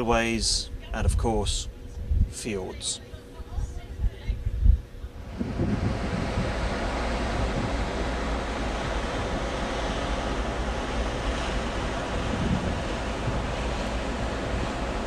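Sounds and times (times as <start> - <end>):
rush of wind and sea: 0.0 - 15.0
wind buffeting microphone: 0.0 - 15.0.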